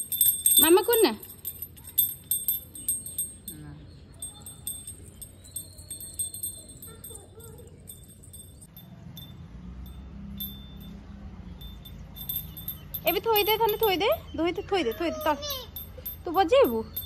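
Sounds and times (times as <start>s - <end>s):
handheld bell tinkling: 0.0s - 17.0s.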